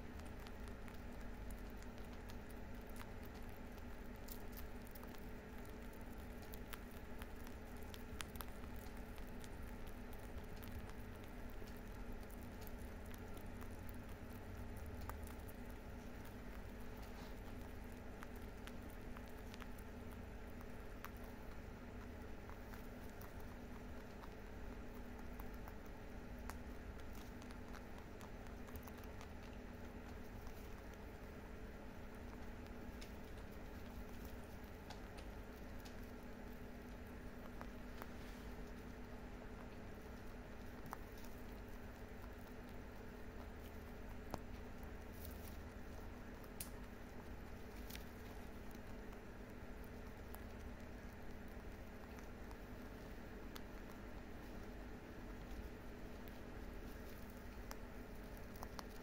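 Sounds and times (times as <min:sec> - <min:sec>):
faint low hum: 0:00.0 - 0:59.0
rabbits crunching hay: 0:00.0 - 0:59.0.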